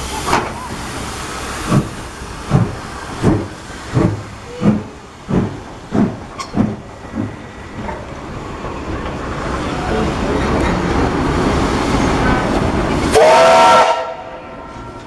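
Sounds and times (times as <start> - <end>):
steam locomotive chuffing: 0.0 - 14.4.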